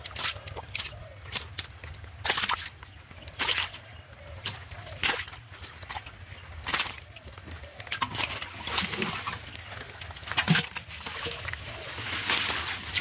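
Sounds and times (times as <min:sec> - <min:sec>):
splashing in shallow water: 0:00.0 - 0:13.0.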